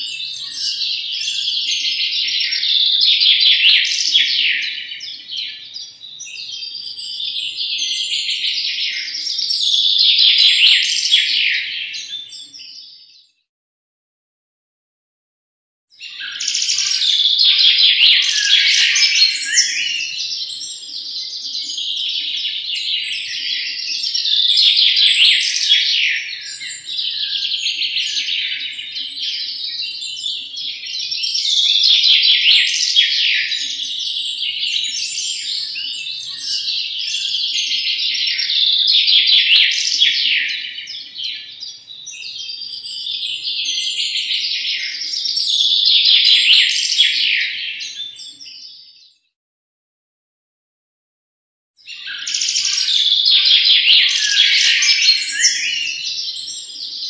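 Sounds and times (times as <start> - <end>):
finches twittering and trilling: 0.0 - 13.0, 16.0 - 49.0, 51.8 - 57.0.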